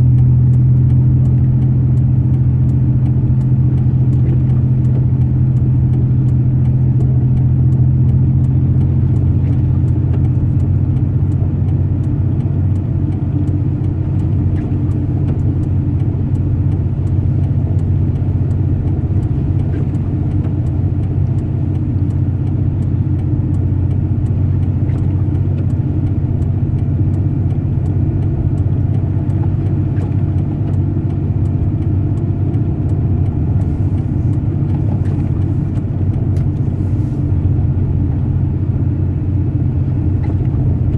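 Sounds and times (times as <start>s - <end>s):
truck engine and road hum: 0.0s - 40.9s.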